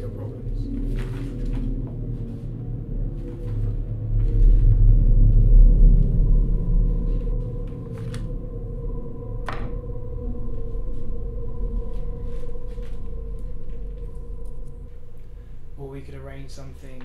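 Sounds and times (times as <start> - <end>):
deep rumbling drone: 0.0 - 17.0
faint high hum: 0.0 - 17.0.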